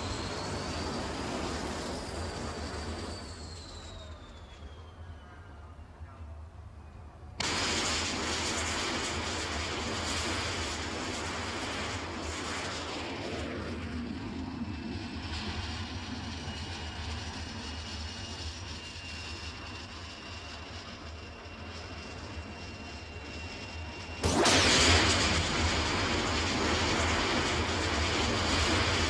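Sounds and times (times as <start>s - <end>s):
jet engine rushing: 0.0s - 5.8s, 7.4s - 29.0s.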